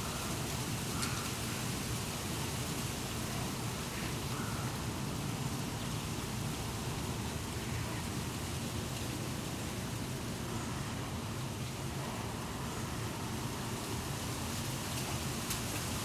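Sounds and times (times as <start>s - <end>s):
wind blowing through treetop: 0.0s - 16.0s.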